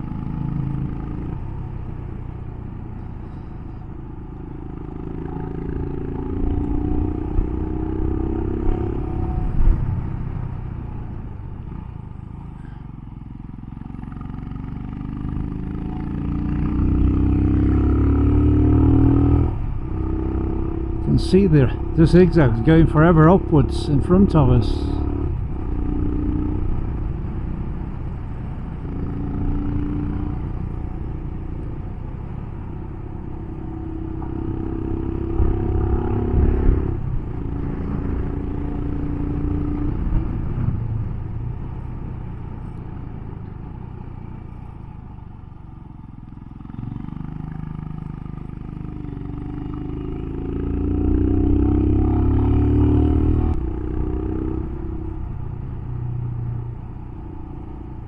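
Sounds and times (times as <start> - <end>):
motorcycle engine pulling uphill: 0.0 - 58.0.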